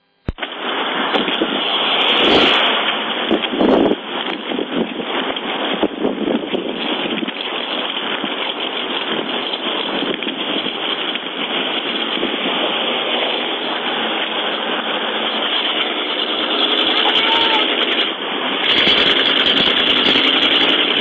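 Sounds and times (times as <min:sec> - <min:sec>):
rushing vehicle noise: 0:00.2 - 0:21.0.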